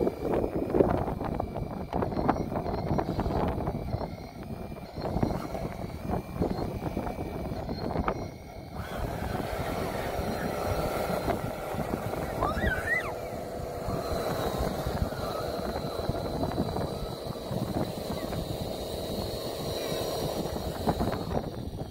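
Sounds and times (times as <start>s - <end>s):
faint electric motor hum: 0.0s - 21.9s
model bulldozer driving over dirt: 0.0s - 21.9s.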